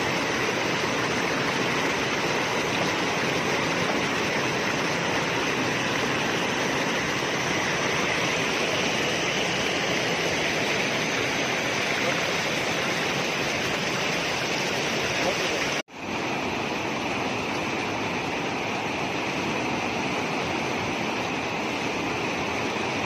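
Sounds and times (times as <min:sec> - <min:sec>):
mountain stream rushing: 0:00.0 - 0:23.0
small waterfall: 0:00.0 - 0:23.0.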